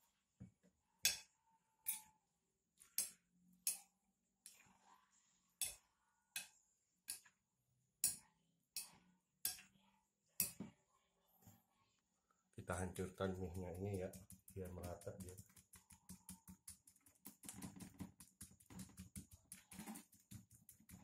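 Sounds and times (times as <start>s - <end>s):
faint wet stirring: 2.8s - 7.4s, 8.0s - 21.0s.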